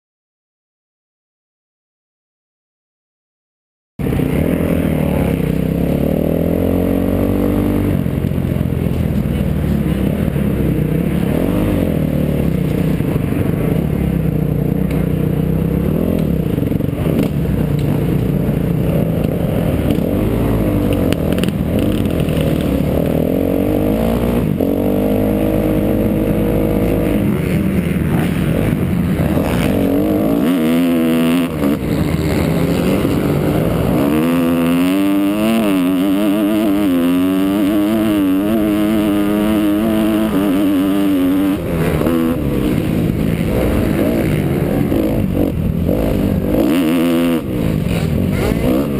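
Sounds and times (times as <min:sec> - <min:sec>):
dirt bike engine revving: 0:04.0 - 0:48.9.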